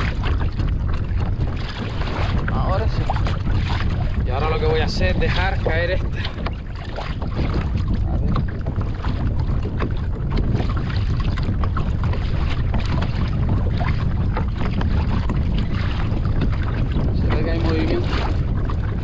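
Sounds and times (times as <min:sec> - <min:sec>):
waves slapping plastic hull: 0:00.0 - 0:19.0
wind buffeting microphone: 0:00.0 - 0:19.0.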